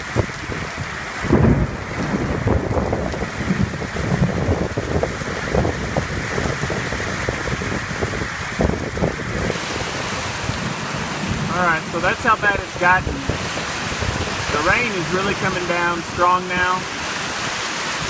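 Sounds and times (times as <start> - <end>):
heavy rain pouring: 0.0 - 18.0
wind buffeting microphone: 0.0 - 18.0.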